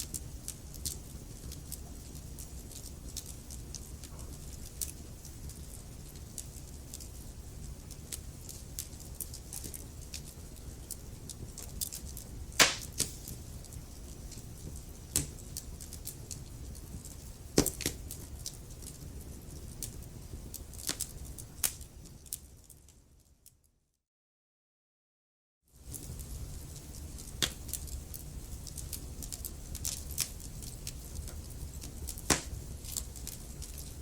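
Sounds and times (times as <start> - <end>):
wood fire crackling: 0.0 - 23.6, 25.8 - 34.0.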